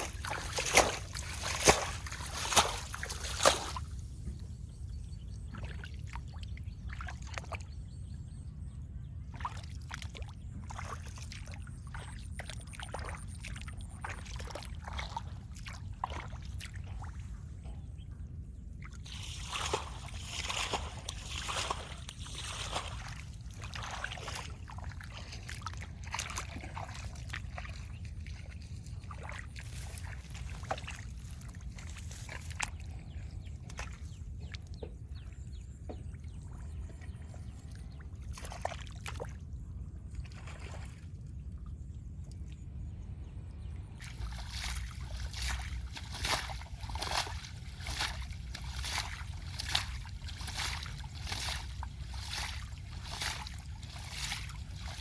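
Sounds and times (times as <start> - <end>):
water sloshing and splashing: 0.0 - 4.7, 5.4 - 7.8, 9.2 - 43.0, 43.6 - 55.0
steady low rumble: 0.0 - 55.0.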